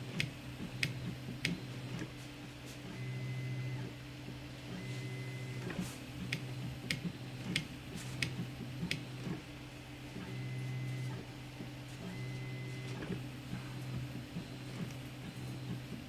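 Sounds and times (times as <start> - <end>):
printer stepper motors whining: 0.0 - 16.0.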